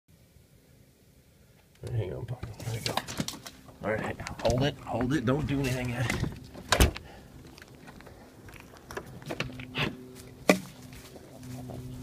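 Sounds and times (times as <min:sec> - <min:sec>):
steady low hum: 0:00.1 - 0:12.0.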